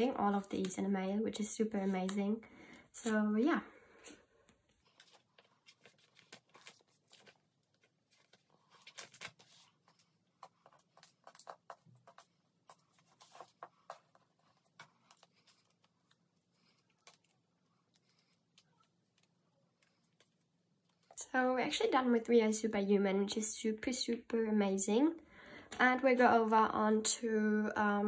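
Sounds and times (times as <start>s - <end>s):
plastic sleeves rustling: 0.0s - 22.6s.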